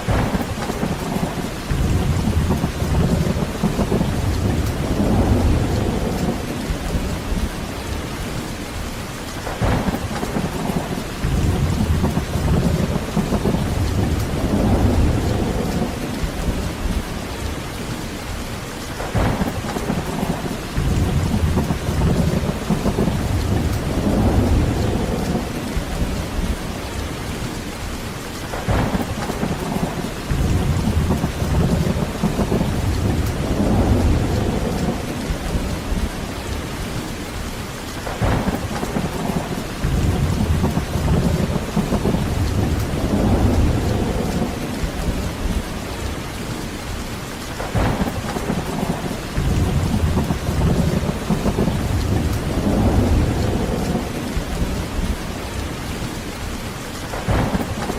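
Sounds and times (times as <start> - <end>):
rolling thunder: 0.0 - 7.7, 9.4 - 17.2, 19.0 - 27.5, 28.5 - 37.0, 38.0 - 46.6, 47.6 - 55.8, 56.4 - 57.9
heavy rain falling: 0.0 - 57.9.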